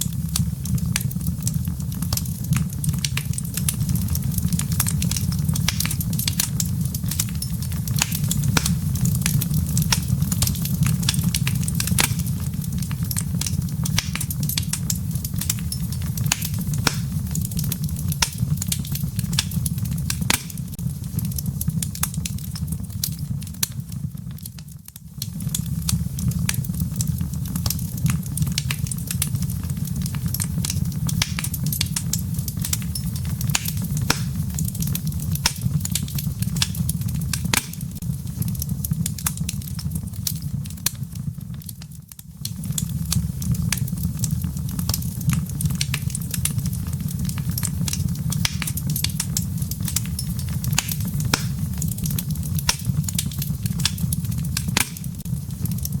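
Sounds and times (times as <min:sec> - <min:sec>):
embers popping and snapping: 0:00.0 - 0:56.0
low rumble of flame: 0:00.0 - 0:56.0
wood fire crackling: 0:00.0 - 0:56.0.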